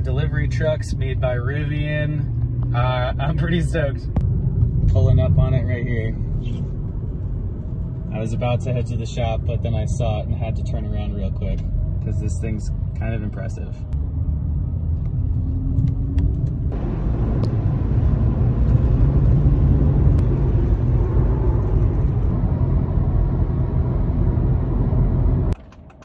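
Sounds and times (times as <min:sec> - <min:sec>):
road and tyre rumble: 0:00.0 - 0:26.0.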